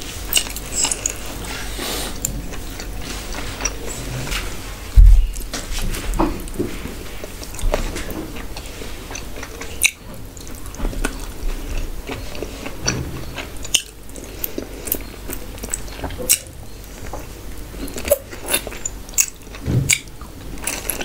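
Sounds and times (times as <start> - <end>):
person chewing meat: 0.0 - 21.0.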